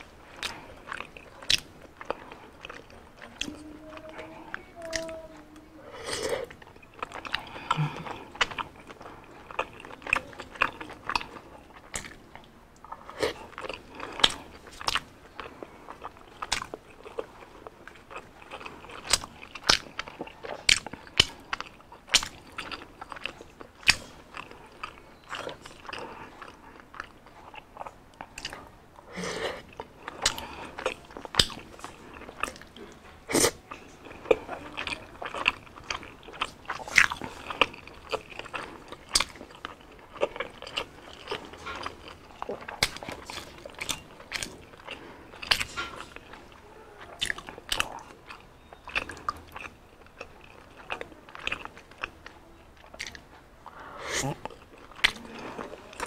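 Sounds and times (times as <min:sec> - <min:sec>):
crunchy chewing: 0:00.0 - 0:56.0.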